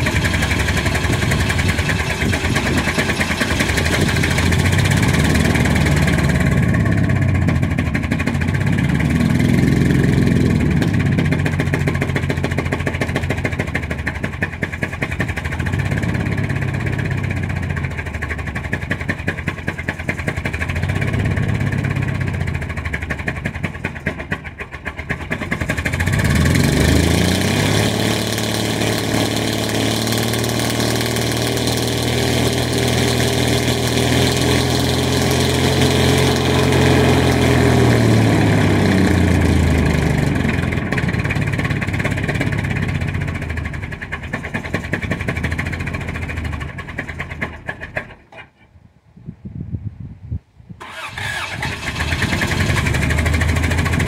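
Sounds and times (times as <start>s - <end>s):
car engine running rough: 0.0s - 48.4s, 50.8s - 54.0s.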